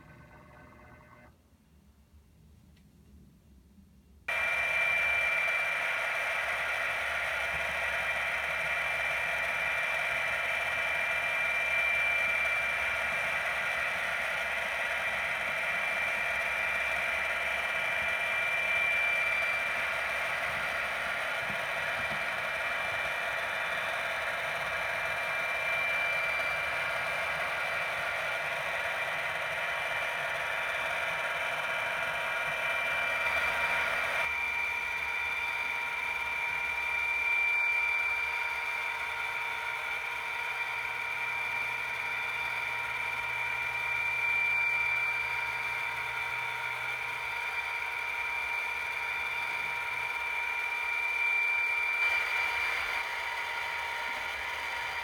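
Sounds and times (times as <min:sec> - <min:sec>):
high-pitched whine: 0:00.0 - 0:01.3, 0:04.3 - 0:55.0
model locomotive whirring: 0:00.0 - 0:01.3, 0:04.3 - 0:55.0.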